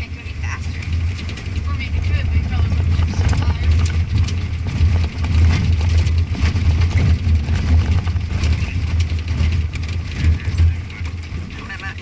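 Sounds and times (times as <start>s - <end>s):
clicks and rattles: 0.0s - 12.0s
vehicle engine droning: 0.0s - 12.0s.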